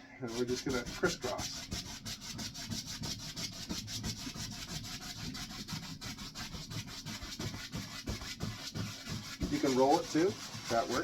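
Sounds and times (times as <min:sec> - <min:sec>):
paintbrush scrubbing: 0:00.2 - 0:11.0.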